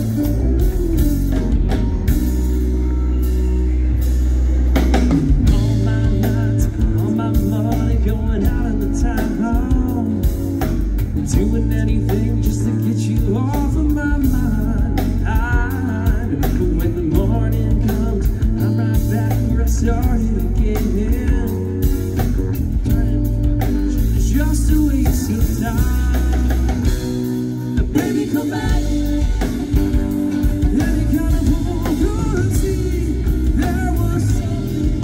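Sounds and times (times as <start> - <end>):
bass guitar: 0.0 - 35.0
drum kit: 0.0 - 35.0
electric guitar: 0.0 - 35.0
person singing: 5.3 - 22.2, 23.9 - 35.0.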